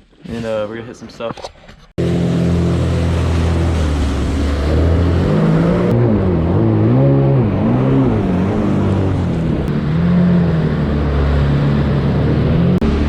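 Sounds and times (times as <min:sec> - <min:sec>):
jet ski engine revving: 0:02.0 - 0:13.0.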